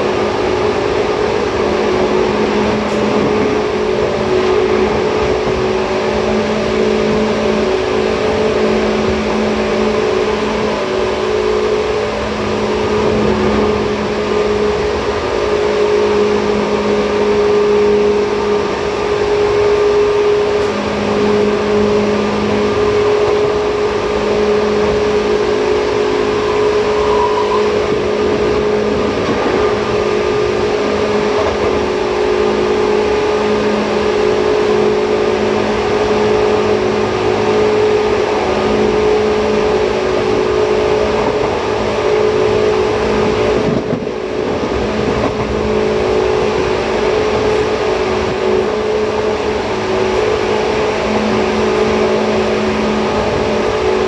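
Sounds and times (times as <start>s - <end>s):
electric train motor hum: 0.0s - 54.0s
train wheels rumbling on track: 0.0s - 54.0s.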